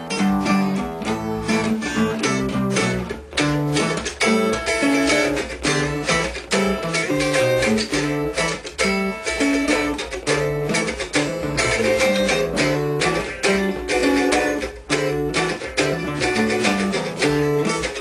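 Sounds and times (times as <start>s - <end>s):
acoustic guitars strumming chords: 0.0s - 18.0s.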